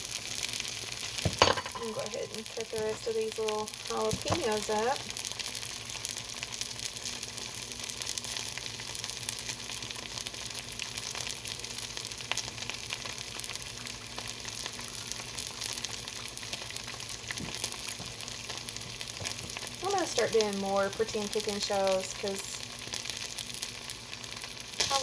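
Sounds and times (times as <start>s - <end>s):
batter sizzling in waffle maker: 0.0s - 25.0s.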